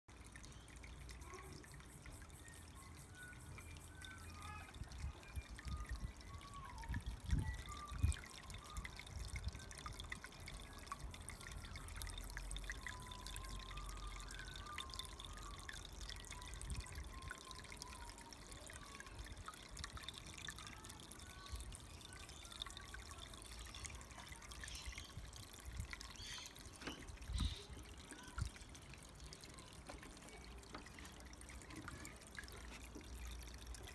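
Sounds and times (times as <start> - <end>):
water trickling into pond: 0.0 - 33.9.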